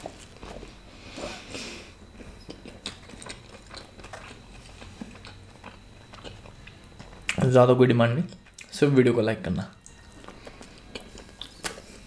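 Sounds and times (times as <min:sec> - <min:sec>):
chewing bread: 0:00.0 - 0:07.6, 0:08.2 - 0:08.8, 0:09.8 - 0:12.0.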